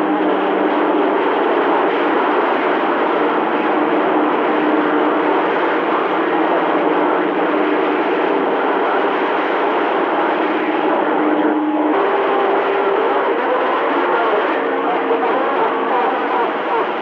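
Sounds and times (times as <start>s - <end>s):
faint steady tones: 0.0s - 17.0s
train rumbling over radio: 0.0s - 17.0s.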